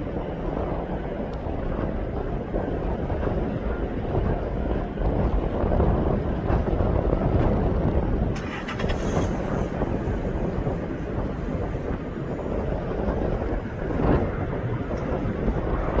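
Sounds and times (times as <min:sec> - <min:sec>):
steady low rumble: 0:00.0 - 0:16.0
wind buffeting microphone: 0:00.0 - 0:16.0.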